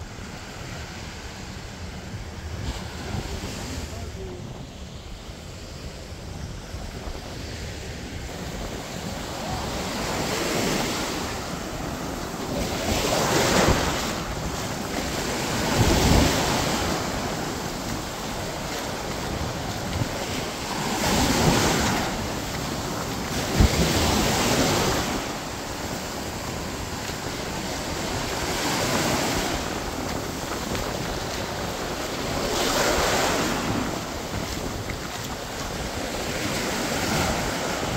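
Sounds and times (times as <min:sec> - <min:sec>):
small waves breaking on sand: 0:00.0 - 0:37.9
wind buffeting microphone: 0:00.0 - 0:37.9.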